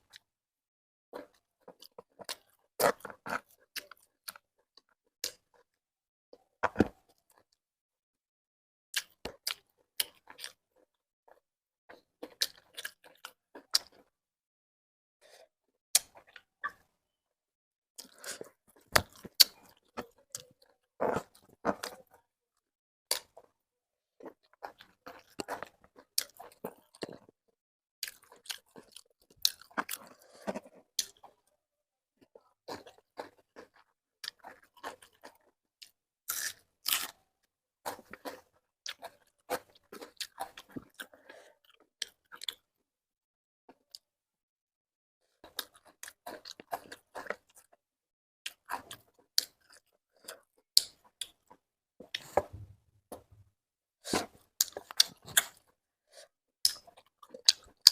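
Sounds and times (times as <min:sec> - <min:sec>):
person chewing and crunching food: 0:01.2 - 0:05.8, 0:06.4 - 0:07.6, 0:08.9 - 0:14.2, 0:15.2 - 0:17.0, 0:18.0 - 0:22.3, 0:23.1 - 0:23.6, 0:24.2 - 0:27.4, 0:28.0 - 0:31.6, 0:32.2 - 0:42.8, 0:45.2 - 0:47.8, 0:48.4 - 0:53.4, 0:54.0 - 0:57.9.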